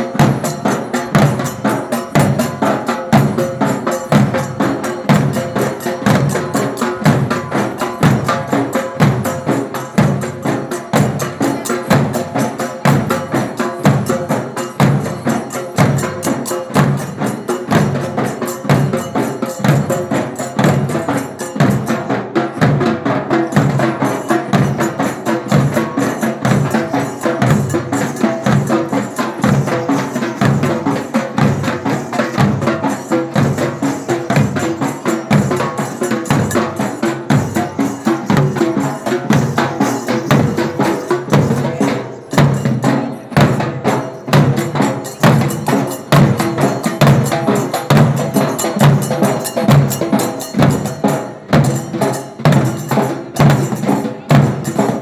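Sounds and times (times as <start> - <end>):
barrel drums beaten with sticks: 0.0 - 55.0.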